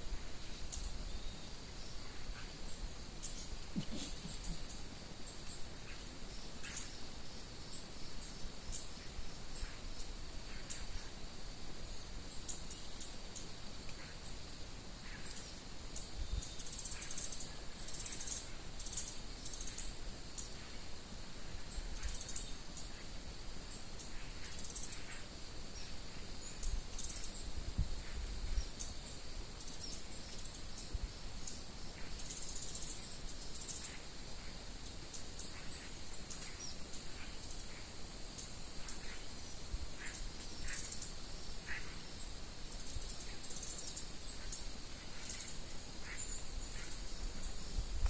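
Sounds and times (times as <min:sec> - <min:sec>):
wild birds chirping: 0:00.0 - 0:48.0.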